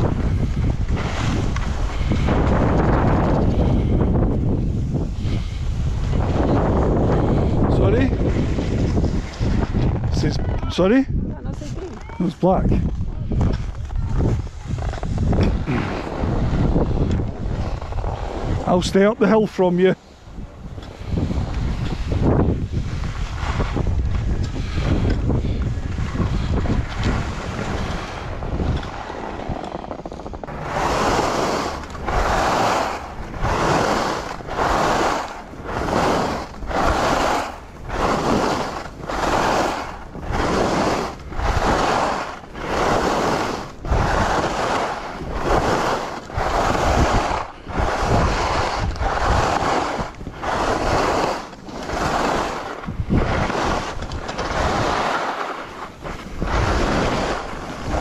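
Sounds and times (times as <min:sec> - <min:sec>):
skis swishing through snow: 0:00.0 - 0:58.0
wind rumble on microphone: 0:00.0 - 0:58.0.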